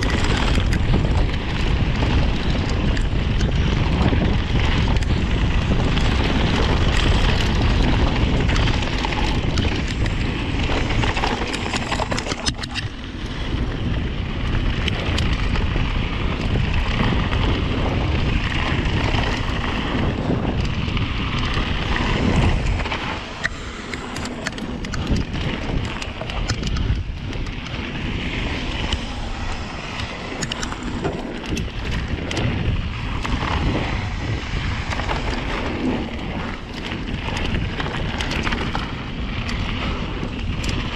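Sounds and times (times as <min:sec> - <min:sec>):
bike rattling and knocking: 0:00.0 - 0:40.9
bike tyre noise: 0:00.0 - 0:40.9
wind on microphone: 0:00.0 - 0:40.9.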